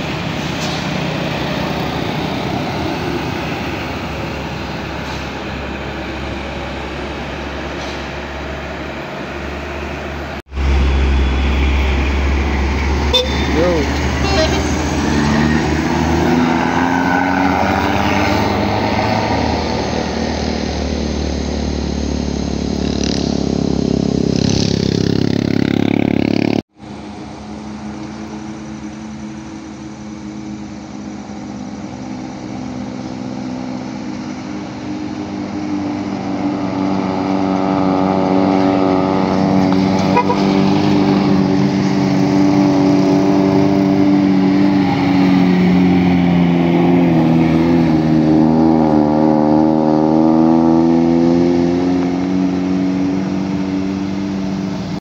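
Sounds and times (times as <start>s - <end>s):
heavy vehicle engines passing: 0.0s - 55.0s.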